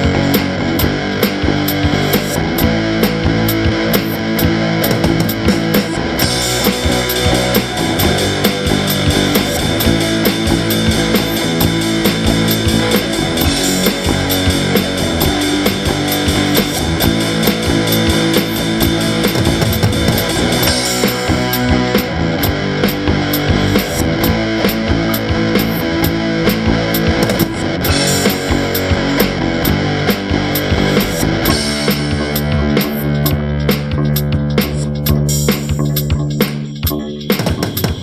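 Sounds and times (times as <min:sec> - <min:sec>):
distorted electric guitar: 0:00.0 - 0:38.0
drum kit beat: 0:00.0 - 0:38.0.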